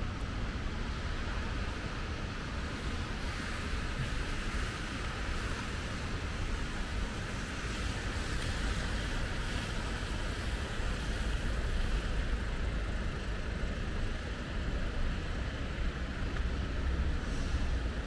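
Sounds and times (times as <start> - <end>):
rumble of city traffic: 0.0 - 18.0.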